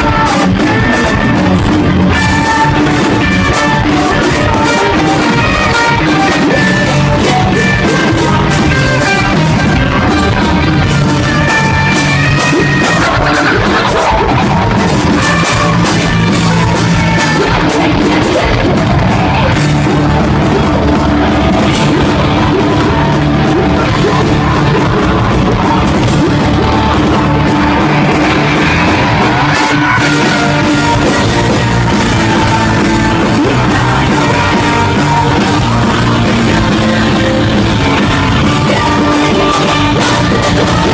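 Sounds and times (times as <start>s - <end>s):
drums: 0.0s - 40.9s
electric guitars: 0.0s - 40.9s
sung and shouted vocals: 0.0s - 40.9s.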